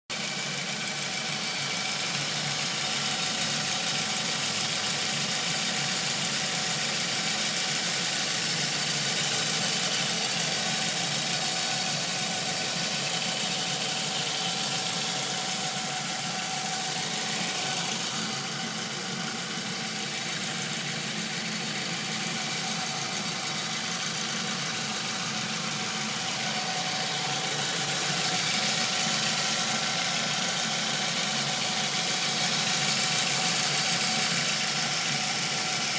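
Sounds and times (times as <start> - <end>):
car engine running: 0.1 - 35.9.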